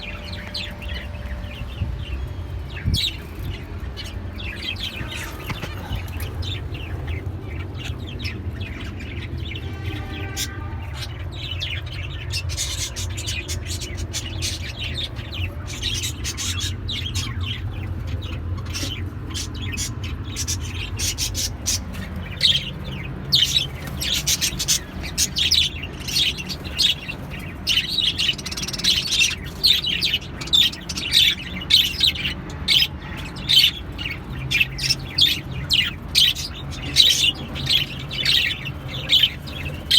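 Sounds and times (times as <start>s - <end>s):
pet birds chirping: 0.0s - 39.9s.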